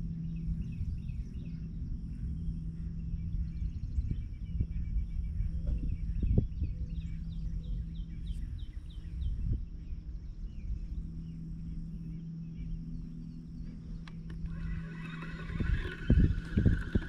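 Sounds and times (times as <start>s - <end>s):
low steady hum and rumble: 0.0s - 17.0s
bird chirping: 0.1s - 17.0s.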